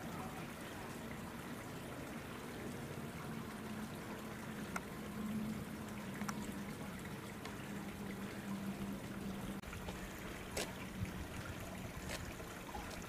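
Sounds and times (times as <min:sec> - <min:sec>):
faint water trickling: 0:00.0 - 0:13.0
low steady hum: 0:00.0 - 0:13.0.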